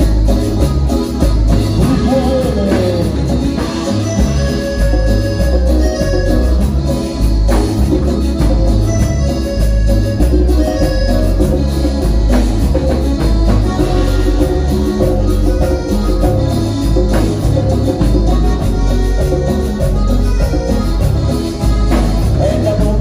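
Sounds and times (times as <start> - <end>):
live latin dance band music: 0.0 - 23.0.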